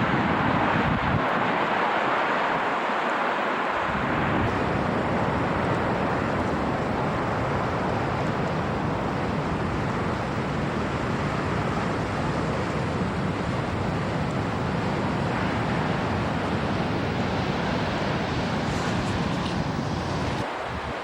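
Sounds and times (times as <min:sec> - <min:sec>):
wind buffeting microphone: 0:00.0 - 0:02.7, 0:03.8 - 0:21.0
heavy surf: 0:00.0 - 0:21.0
storm wind roaring: 0:00.0 - 0:21.0.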